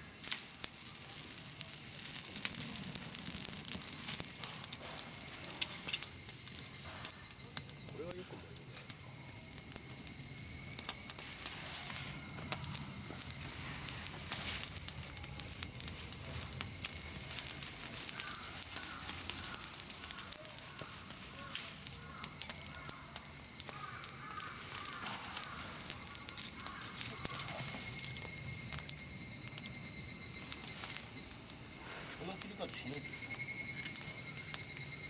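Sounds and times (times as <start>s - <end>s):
campfire crackling: 0.0s - 35.0s
insects chirping: 0.0s - 35.0s.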